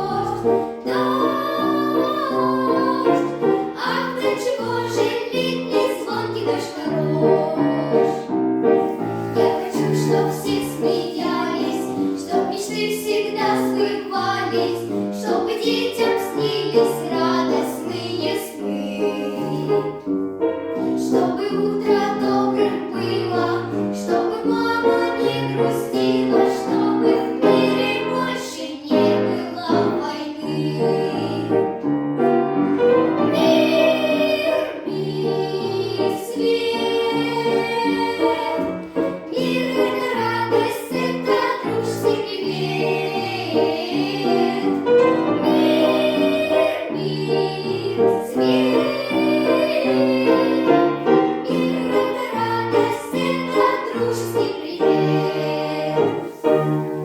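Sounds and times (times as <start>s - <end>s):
children singing: 0.0s - 20.1s, 20.8s - 57.0s.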